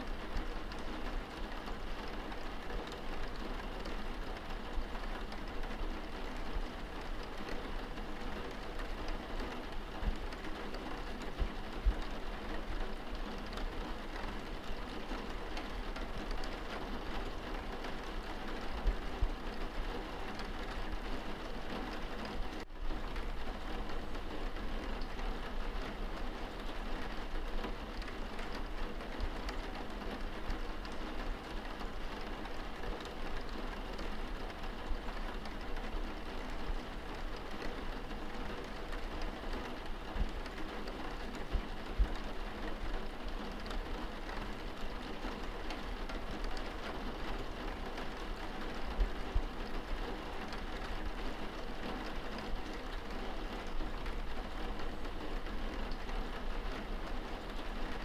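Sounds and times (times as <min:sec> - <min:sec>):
rain pattering on a window: 0:00.0 - 0:58.0.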